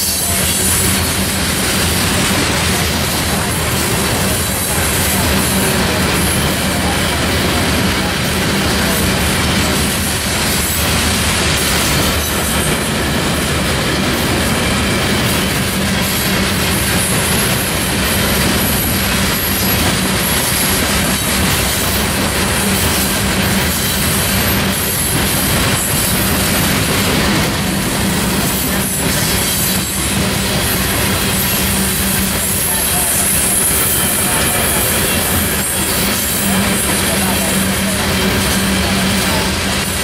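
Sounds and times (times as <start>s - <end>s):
freight train wheels on rail: 0.0s - 40.0s.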